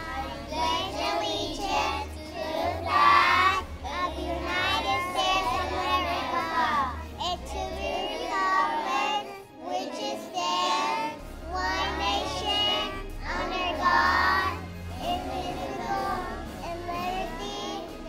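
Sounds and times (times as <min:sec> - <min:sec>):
children reciting in unison: 0:00.0 - 0:18.0.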